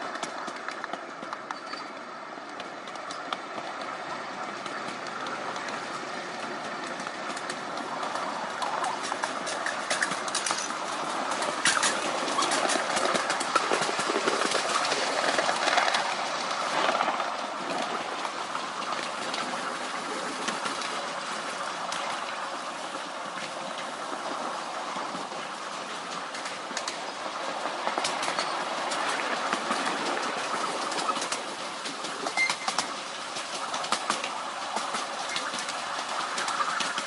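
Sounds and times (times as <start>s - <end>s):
rail joint clicks: 0.0s - 37.0s
small train wheels rumbling on rails: 0.0s - 37.0s.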